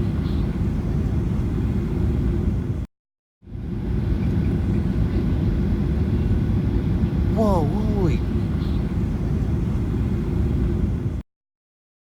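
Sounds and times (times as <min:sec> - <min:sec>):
airliner cabin drone: 0:00.0 - 0:11.2.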